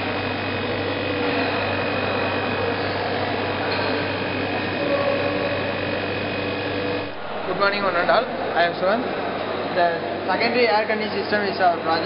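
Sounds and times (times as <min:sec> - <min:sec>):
refrigeration machine humming: 0:00.0 - 0:12.0.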